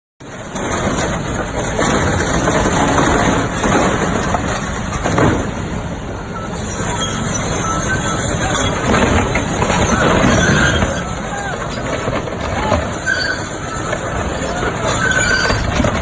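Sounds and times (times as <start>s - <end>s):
excavator diesel engine under load: 0.2s - 16.0s
metal scraping and crunching: 0.2s - 16.0s.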